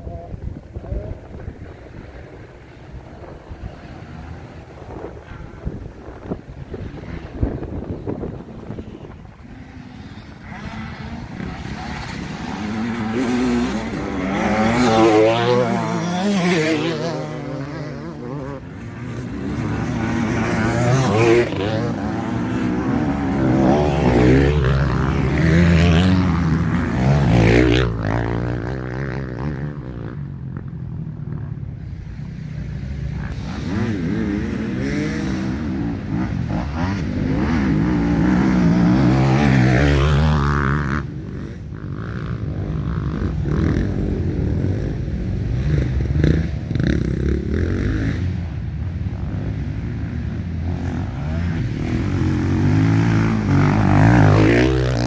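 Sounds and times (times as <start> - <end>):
dirt bikes revving: 0.0 - 55.0.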